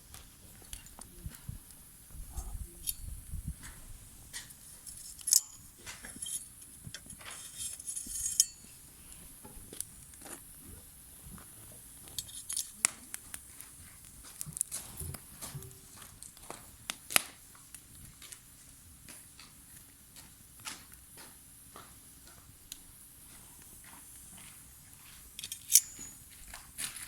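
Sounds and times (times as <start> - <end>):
wood fire crackling and popping: 0.0 - 7.9, 8.7 - 27.0.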